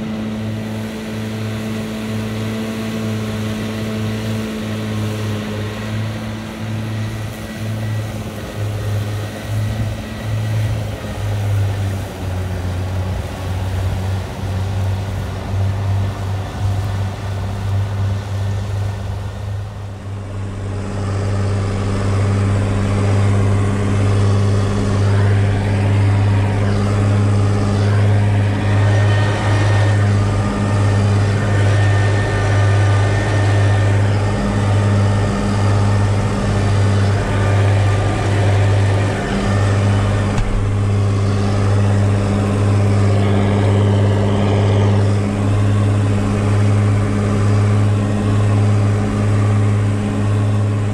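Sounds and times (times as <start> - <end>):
tractor diesel engine droning: 0.0 - 50.9.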